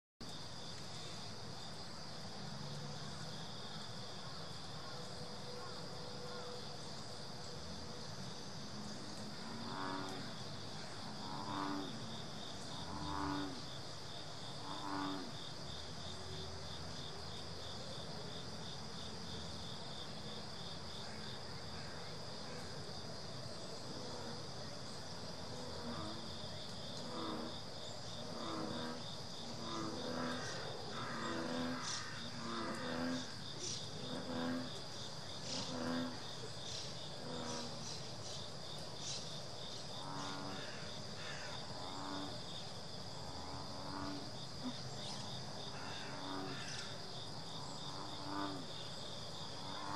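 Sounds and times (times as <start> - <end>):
insects trilling: 0.2 - 49.9.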